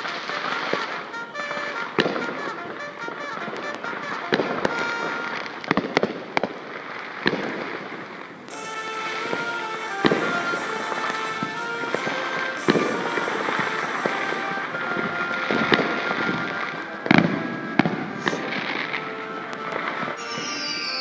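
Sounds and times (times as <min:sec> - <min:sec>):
background music: 0:00.0 - 0:07.7, 0:08.4 - 0:21.0
fireworks bursting: 0:00.0 - 0:21.0.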